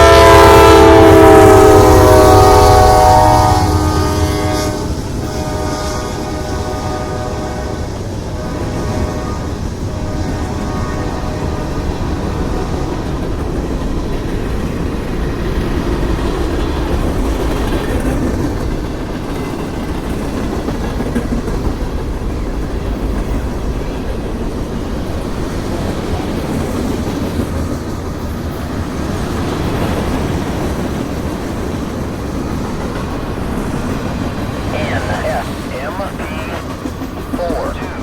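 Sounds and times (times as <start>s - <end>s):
freight train wheels on rails: 0.0s - 38.0s.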